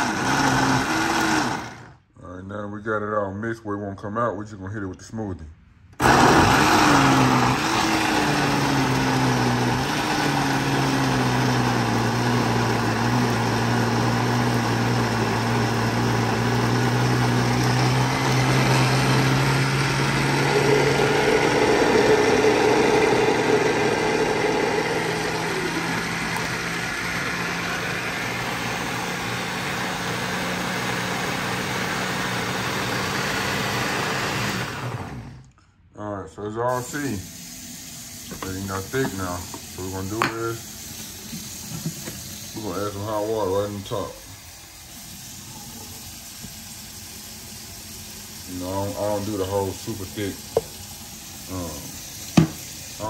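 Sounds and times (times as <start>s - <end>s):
blender running: 0.0s - 2.0s, 6.0s - 35.5s, 36.7s - 53.0s.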